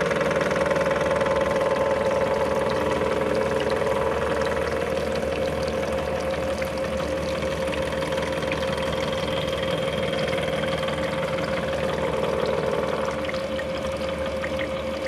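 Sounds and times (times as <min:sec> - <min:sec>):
coolant splashing: 0:00.0 - 0:15.0.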